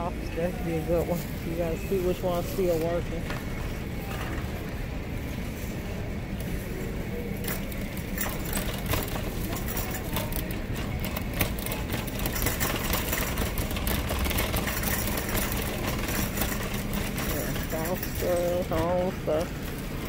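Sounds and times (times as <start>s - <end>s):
shopping cart rattling: 0.0s - 20.0s.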